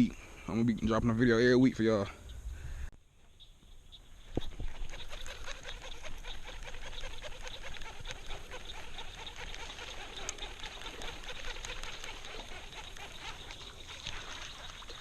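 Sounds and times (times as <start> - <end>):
flock of birds chattering: 1.8 - 15.0.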